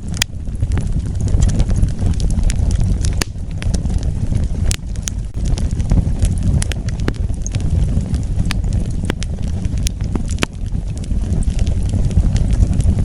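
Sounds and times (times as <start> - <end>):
burning wood crackling and popping: 0.0 - 13.0
wood fire rumbling: 0.0 - 13.0.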